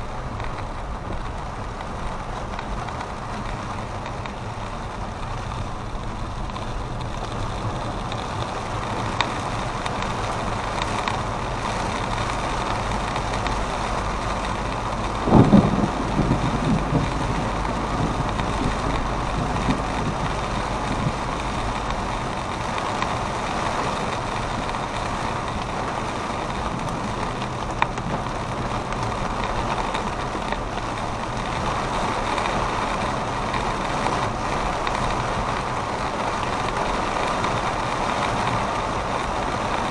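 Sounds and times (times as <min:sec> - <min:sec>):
road vehicle running noise: 0:00.0 - 0:39.9.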